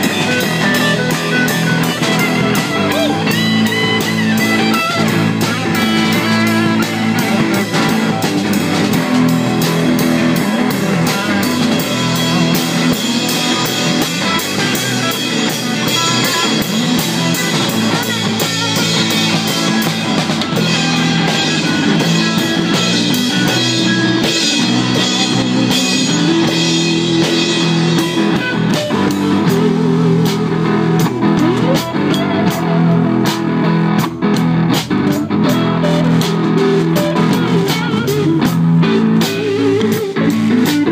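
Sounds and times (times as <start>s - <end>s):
drum kit: 0.0s - 40.9s
electric guitar: 0.0s - 40.9s.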